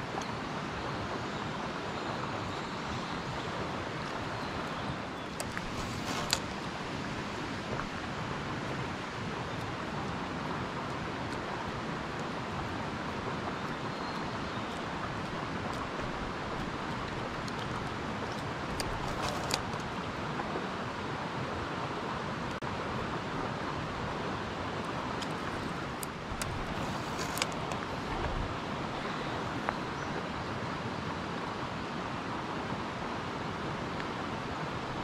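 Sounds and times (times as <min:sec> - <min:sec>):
rushing outdoor noise: 0:00.0 - 0:35.0.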